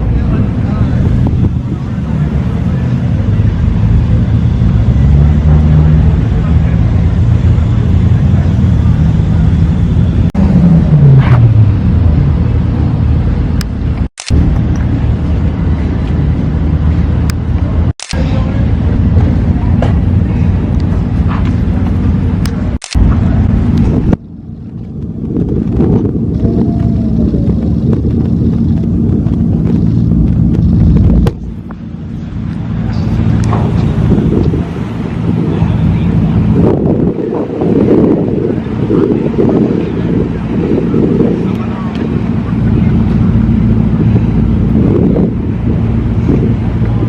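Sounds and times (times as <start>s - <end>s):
car engine running: 0.0s - 47.0s
wind buffeting microphone: 0.0s - 47.0s.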